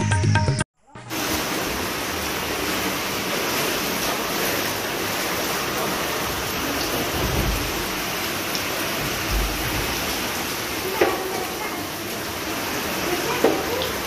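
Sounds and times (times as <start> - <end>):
heavy rain pouring: 1.1 - 14.0.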